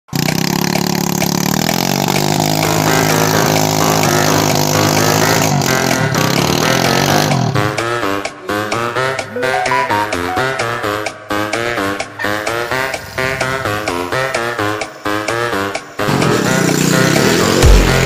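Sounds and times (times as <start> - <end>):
dirt bike engine running: 0.1 - 9.3, 10.7 - 18.0.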